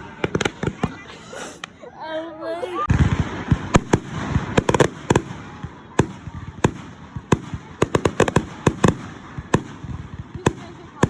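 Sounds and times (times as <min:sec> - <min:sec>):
fireworks banging and crackling: 0:00.0 - 0:01.8, 0:02.8 - 0:11.0.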